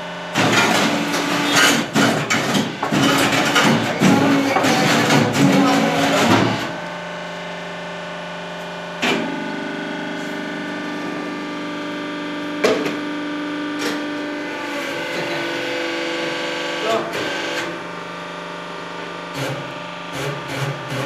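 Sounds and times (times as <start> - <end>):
hydraulic pump hum: 0.0 - 21.0.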